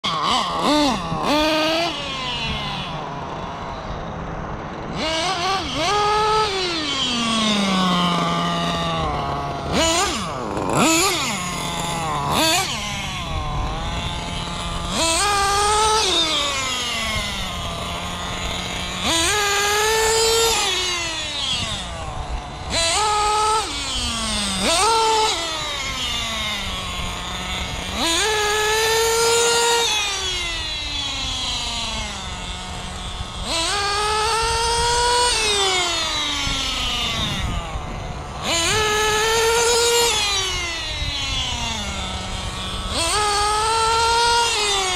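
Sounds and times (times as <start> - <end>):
model car engine revving: 0.0 - 44.9
small engine idling: 0.0 - 44.9.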